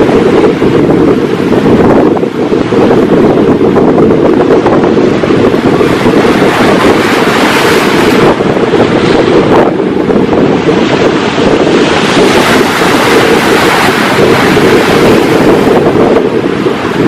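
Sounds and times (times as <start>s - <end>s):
breaking wave wash: 0.0s - 17.0s
sea surf: 0.0s - 17.0s
wind buffeting microphone: 0.0s - 17.0s.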